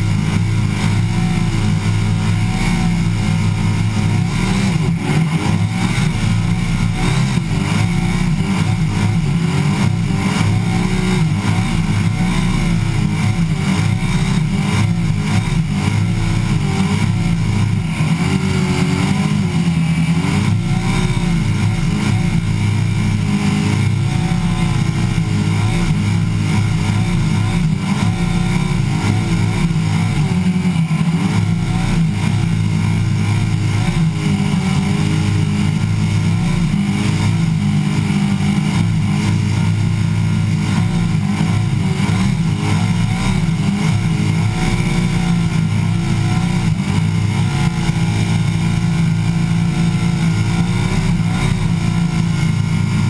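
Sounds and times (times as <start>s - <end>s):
car engine revving in burnout: 0.0s - 53.0s.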